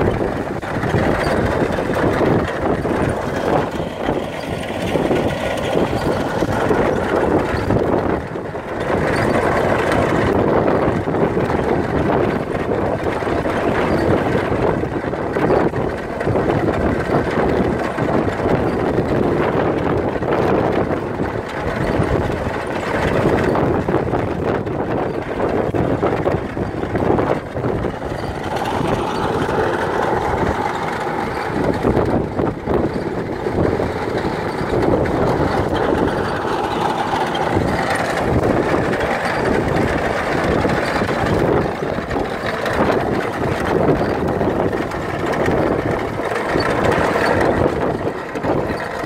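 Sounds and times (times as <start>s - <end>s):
tractor engine running: 0.0s - 49.0s
trencher chain grinding clatter: 0.0s - 49.0s.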